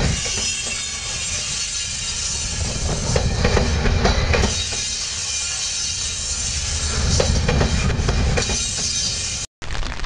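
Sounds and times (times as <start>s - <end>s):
train wheels rumbling on rails: 0.0s - 9.5s.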